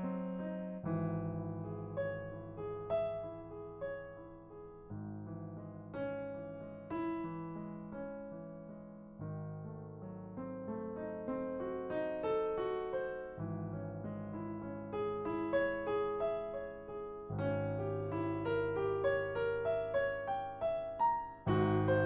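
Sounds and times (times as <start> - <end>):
calm piano music: 0.0 - 22.0.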